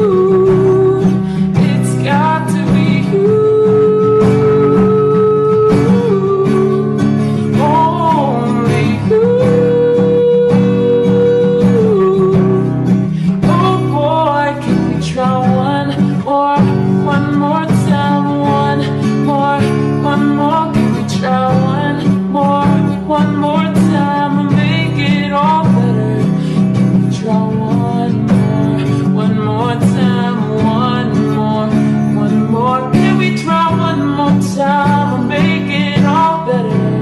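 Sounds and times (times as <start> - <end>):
guitar pop ballad: 0.0 - 37.0.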